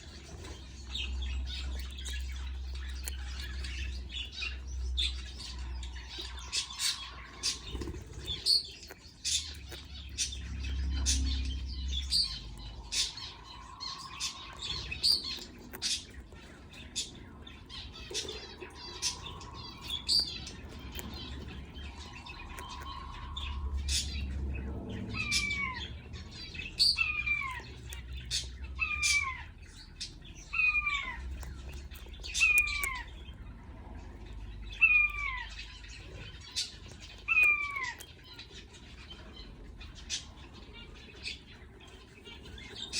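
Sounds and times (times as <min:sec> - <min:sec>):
budgerigars chirping and squeaking: 0:00.0 - 0:42.9.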